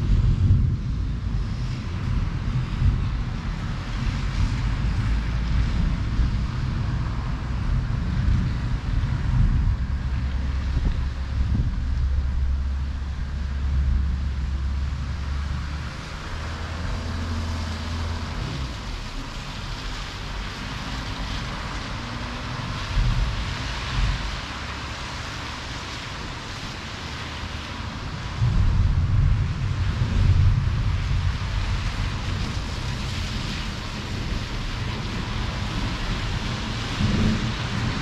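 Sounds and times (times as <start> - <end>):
thunder rumbling: 0.0 - 26.8, 27.5 - 38.0
rain and wind hissing: 0.0 - 38.0.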